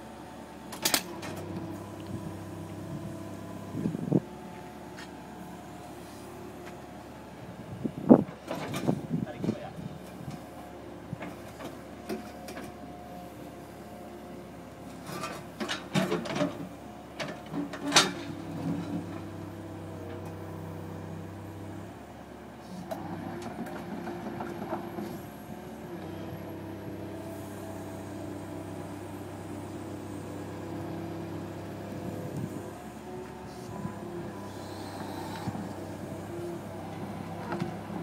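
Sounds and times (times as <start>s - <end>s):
excavator engine and hydraulics: 0.0s - 38.0s.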